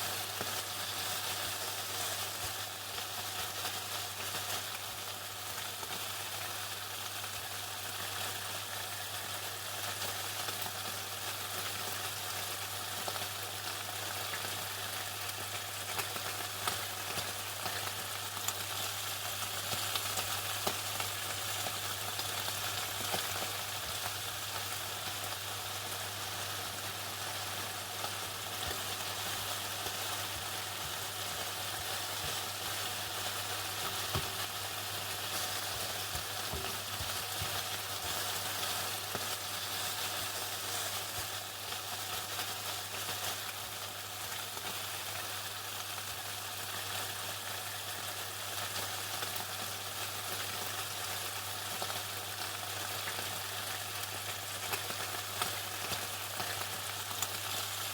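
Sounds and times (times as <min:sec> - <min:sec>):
chicken sizzling in oil: 0:00.0 - 0:57.9.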